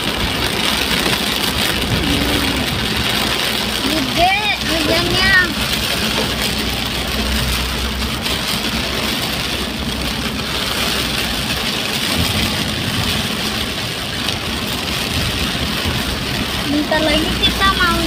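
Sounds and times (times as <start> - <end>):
engine and tyres rumbling: 0.0 - 18.0
heavy rain on vehicle roof: 0.0 - 18.0.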